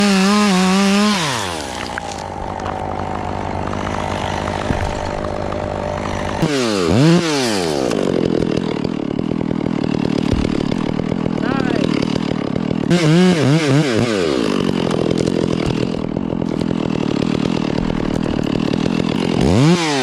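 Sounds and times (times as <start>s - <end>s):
chainsaw engine revving and idling: 0.0s - 20.0s.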